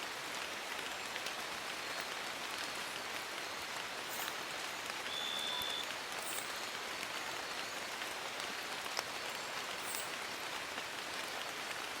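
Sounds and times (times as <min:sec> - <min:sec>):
rain falling on leaves: 0:00.0 - 0:12.0
raindrops ticking: 0:00.0 - 0:12.0.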